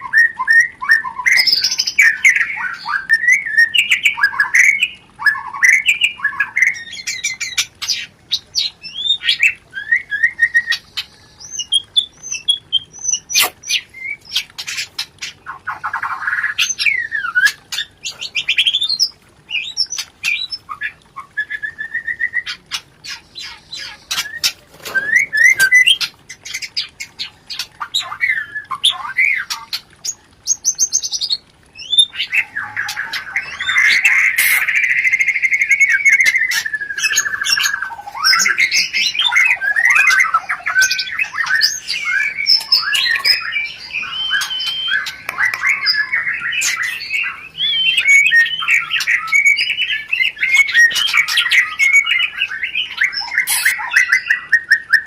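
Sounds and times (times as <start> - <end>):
birds calling and chattering: 0.0 - 55.0.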